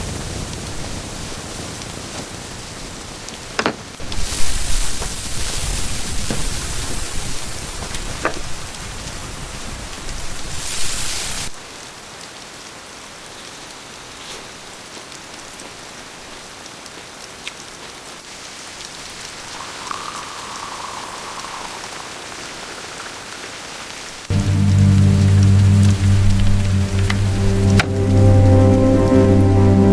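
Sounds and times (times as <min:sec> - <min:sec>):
rain falling: 0:00.0 - 0:29.9.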